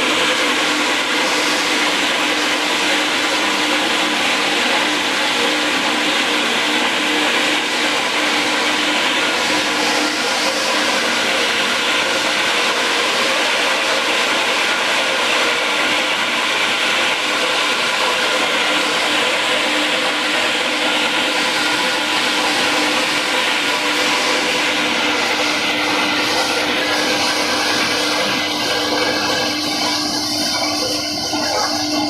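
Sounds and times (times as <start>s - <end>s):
pellet machine mechanical drone: 0.0s - 32.0s.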